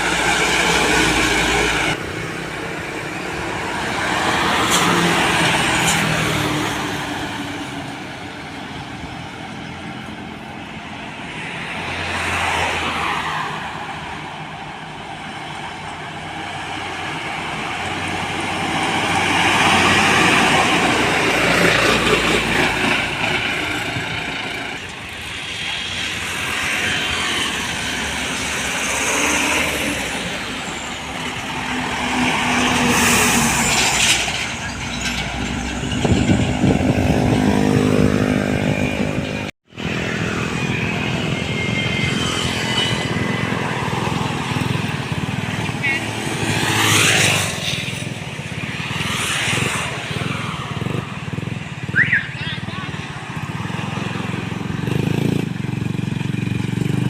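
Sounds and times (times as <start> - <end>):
heavy trucks passing: 0.0 - 57.0.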